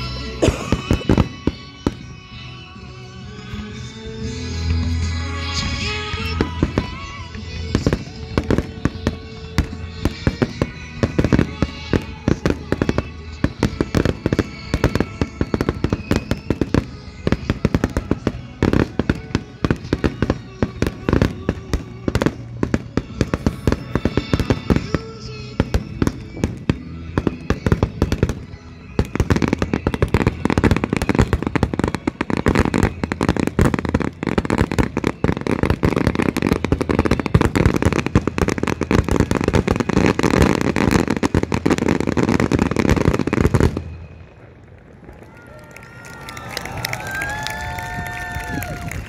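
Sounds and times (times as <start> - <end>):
fireworks bursts and bangs: 0.0 - 49.0.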